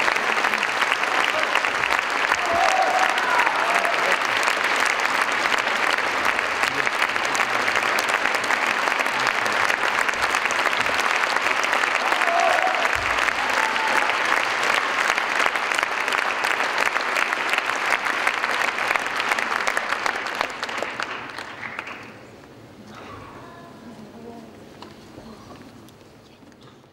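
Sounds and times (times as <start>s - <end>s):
audience applauding: 0.0s - 22.4s.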